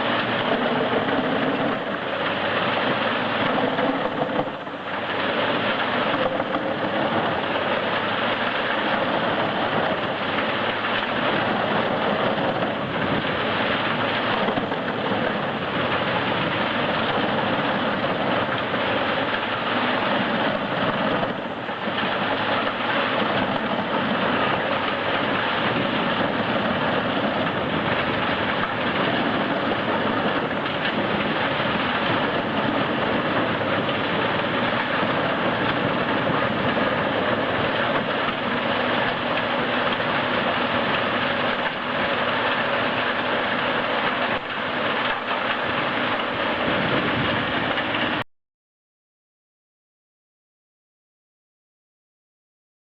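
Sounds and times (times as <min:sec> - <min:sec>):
wood chipper running: 0:00.0 - 0:48.2.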